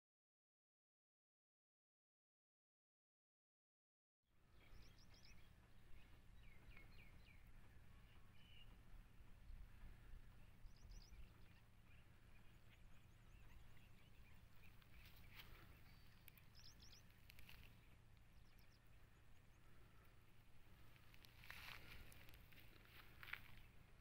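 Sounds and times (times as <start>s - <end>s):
low steady rumble: 4.4s - 24.0s.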